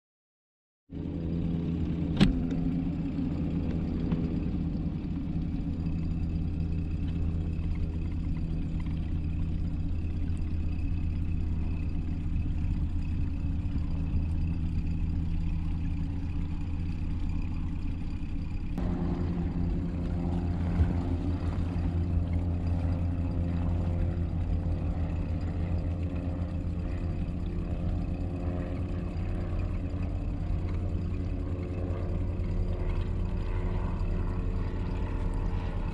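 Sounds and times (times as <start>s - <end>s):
outboard motor droning: 0.9s - 35.9s.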